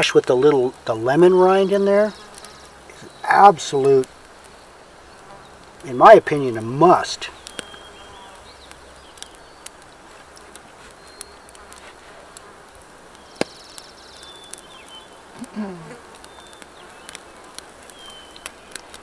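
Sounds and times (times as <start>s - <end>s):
campfire crackling and popping: 0.0s - 19.0s
outdoor hiss: 0.0s - 19.0s.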